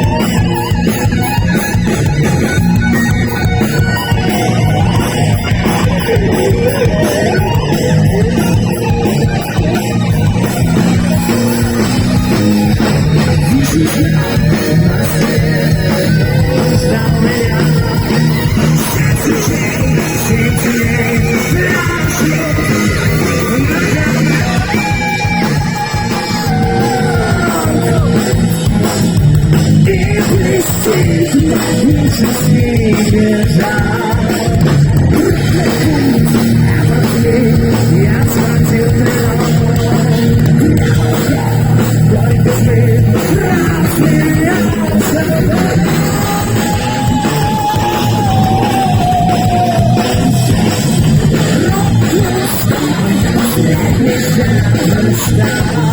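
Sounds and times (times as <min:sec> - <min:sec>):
heavy metal band playing live: 0:00.0 - 0:55.9
sliding lead guitar line: 0:00.0 - 0:55.9.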